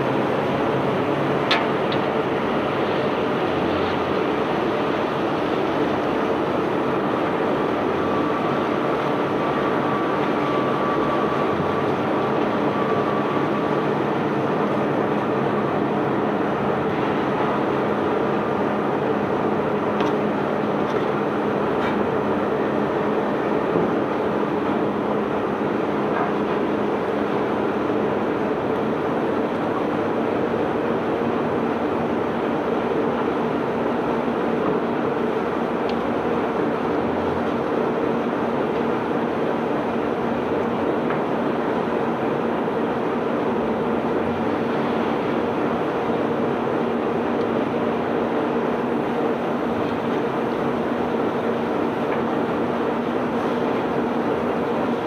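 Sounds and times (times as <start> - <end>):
faint mechanical whine: 0.0 - 55.0
machinery rumbling and rattling: 0.0 - 55.0.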